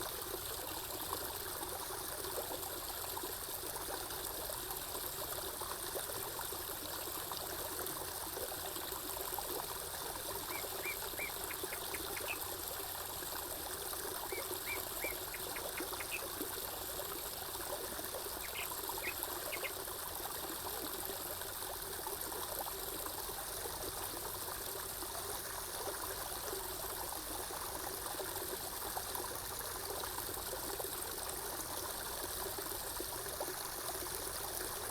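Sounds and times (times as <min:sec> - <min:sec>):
water trickling and flowing: 0:00.0 - 0:34.9.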